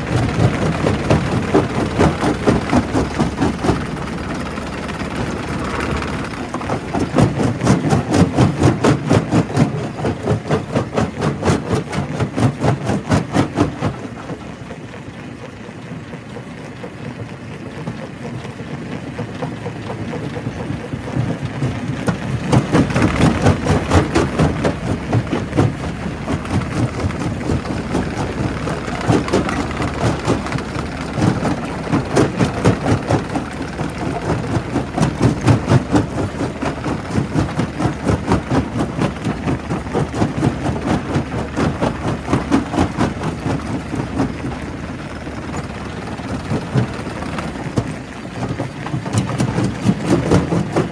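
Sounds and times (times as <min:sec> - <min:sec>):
rock crusher running: 0:00.0 - 0:50.9.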